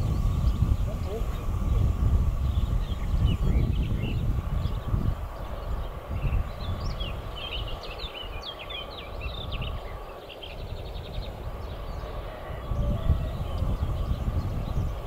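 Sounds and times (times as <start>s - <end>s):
songbird chirping and trilling: 0.0s - 15.0s.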